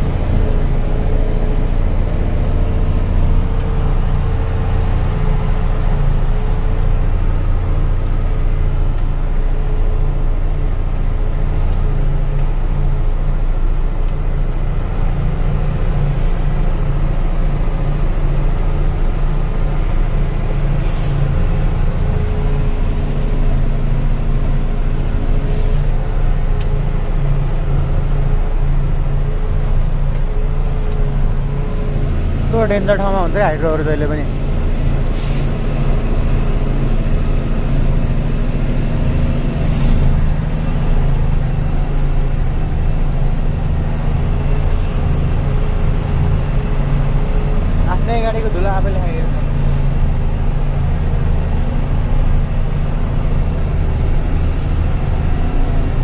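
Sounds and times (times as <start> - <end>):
truck engine under load: 0.0 - 56.0.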